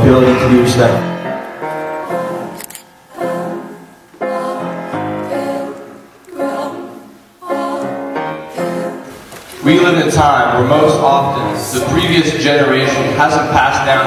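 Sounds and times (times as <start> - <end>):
slow music with singing voices: 0.0 - 13.9.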